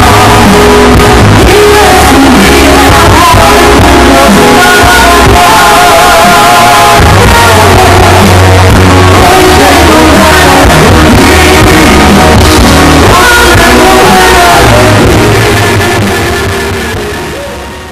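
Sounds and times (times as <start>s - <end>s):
woman singing: 0.0s - 16.1s
bass line: 0.0s - 17.9s
guitar: 0.0s - 17.9s.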